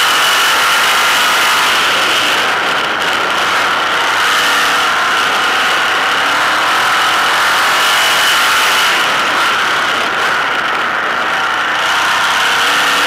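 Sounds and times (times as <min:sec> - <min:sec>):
racing engine running hard: 0:00.0 - 0:13.0.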